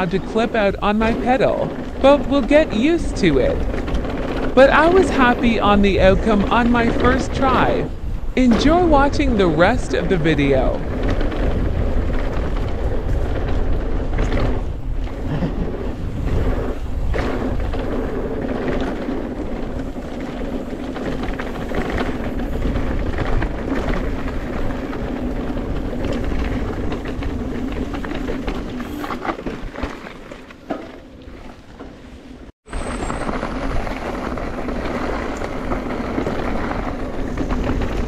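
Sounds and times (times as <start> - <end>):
bike rattling and knocking: 0.0 - 38.0
wind rumbling on microphone: 0.0 - 38.0.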